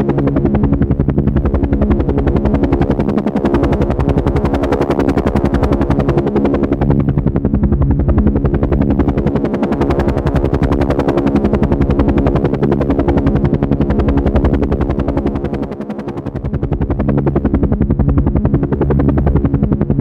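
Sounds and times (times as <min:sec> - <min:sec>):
helicopter rotor chopping: 0:00.0 - 0:20.0.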